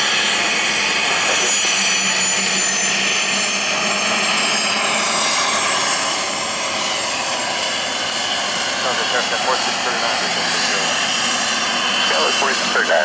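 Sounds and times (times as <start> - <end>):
jet taxiing with turbine whine: 0.0 - 13.0.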